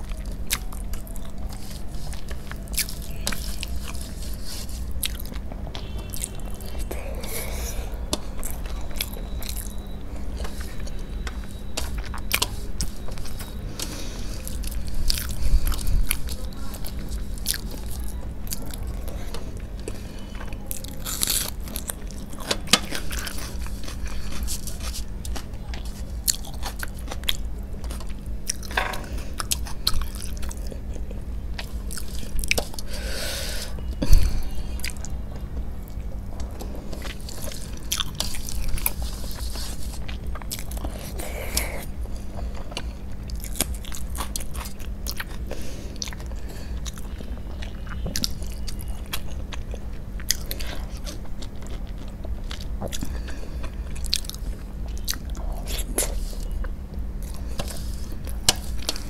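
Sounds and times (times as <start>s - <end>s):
chewing and mouth clicks: 0.0s - 59.0s.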